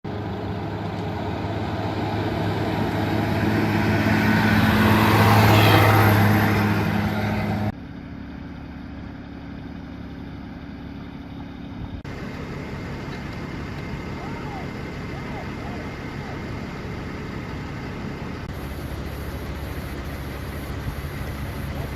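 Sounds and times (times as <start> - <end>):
engine hum: 0.0 - 21.9
low engine hum: 0.0 - 21.9.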